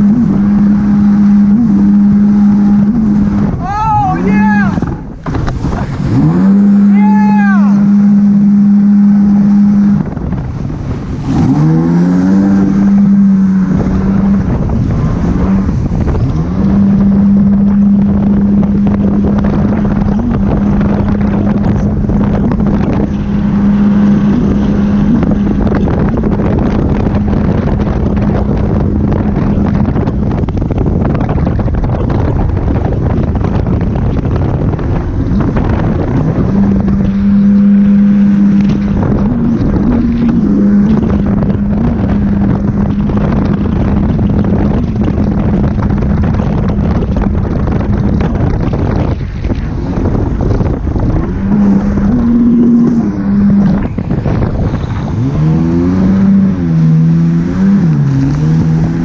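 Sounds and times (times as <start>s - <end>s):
jet ski engine revving: 0.0s - 59.0s
water noise: 0.0s - 59.0s
wind noise: 0.0s - 59.0s.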